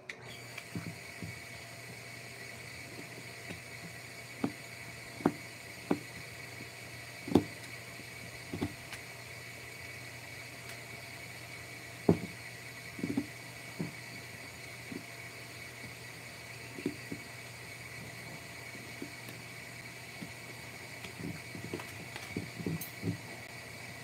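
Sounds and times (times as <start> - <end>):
machine hum with high whine: 0.0 - 24.0.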